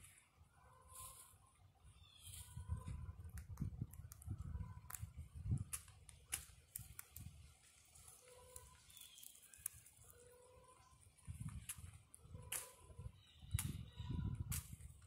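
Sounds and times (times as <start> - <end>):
rabbit chewing leaves: 2.3 - 15.0.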